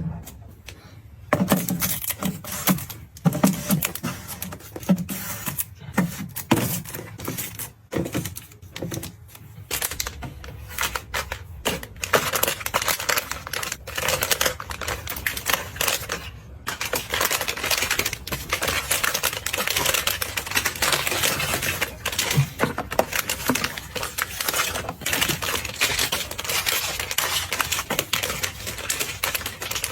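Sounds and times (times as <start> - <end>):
small hard items clattering: 1.3 - 29.9.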